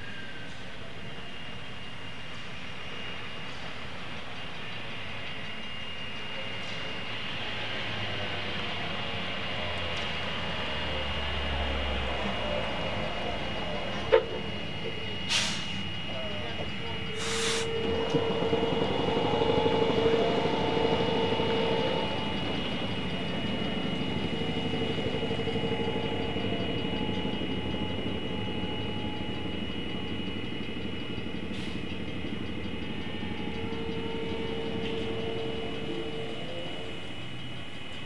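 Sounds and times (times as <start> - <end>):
train running on track: 0.0 - 38.0.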